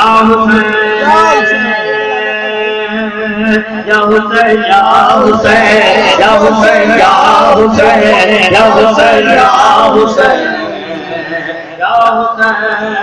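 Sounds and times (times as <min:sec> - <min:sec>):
men chanting and singing together: 0:00.0 - 0:13.0.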